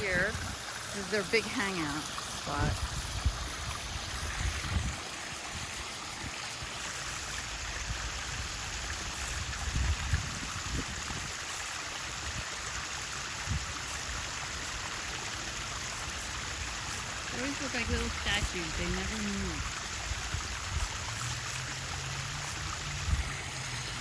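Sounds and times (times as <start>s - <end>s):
waterfall splashing: 0.0s - 24.0s.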